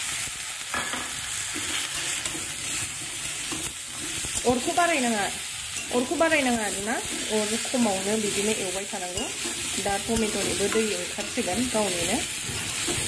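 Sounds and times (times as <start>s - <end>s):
food sizzling in a wok: 0.0s - 13.0s
metal spatula scraping pan: 1.4s - 4.7s, 5.6s - 13.0s.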